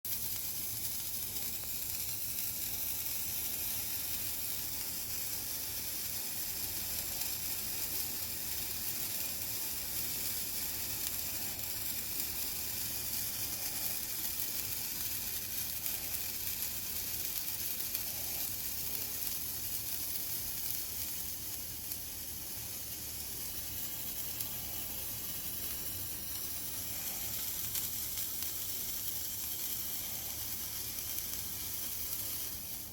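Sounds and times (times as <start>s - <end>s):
handheld firework hissing: 0.1s - 32.9s.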